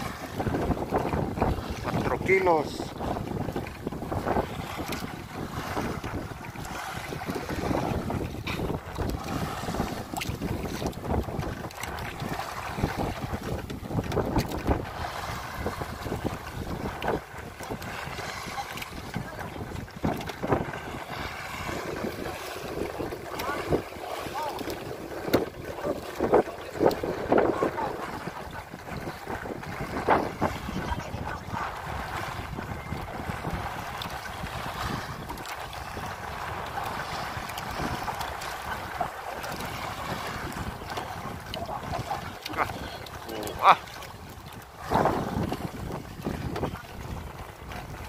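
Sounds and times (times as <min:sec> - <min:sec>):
choppy sea: 0:00.0 - 0:48.0
wind buffeting microphone: 0:00.0 - 0:48.0.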